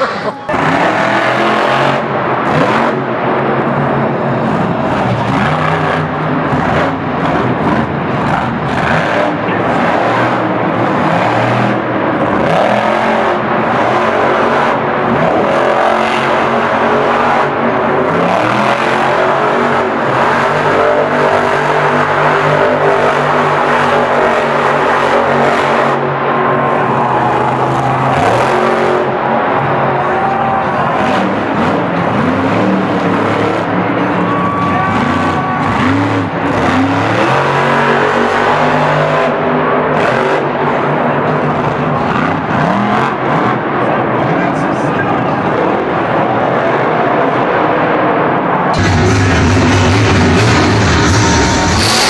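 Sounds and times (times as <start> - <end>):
monster truck engines revving: 0.0 - 52.0.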